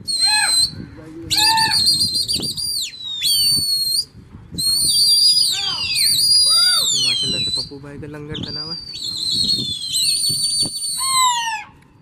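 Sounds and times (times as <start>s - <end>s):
loud shrill whistling: 0.0s - 11.6s.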